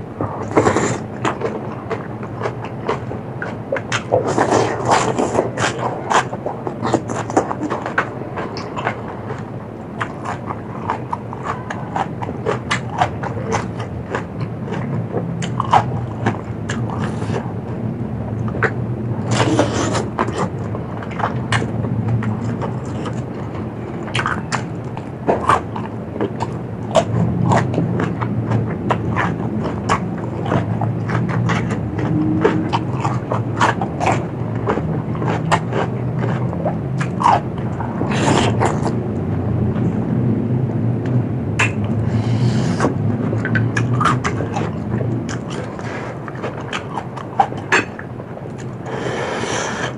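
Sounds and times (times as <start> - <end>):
steady low hum: 0.0 - 49.9
chewing crunches: 0.2 - 17.6, 18.4 - 39.2, 41.0 - 49.9.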